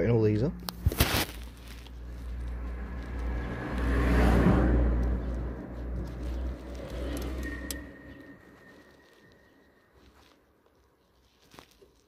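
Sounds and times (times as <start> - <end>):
motor vehicle rumbling: 0.0 - 10.4.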